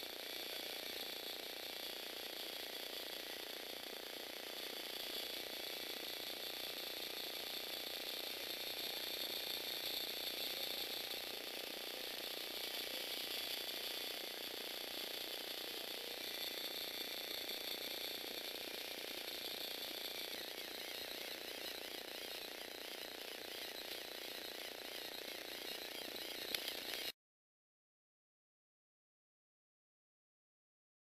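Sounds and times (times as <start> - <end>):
whirr of meshing plastic gears: 0.0 - 27.1.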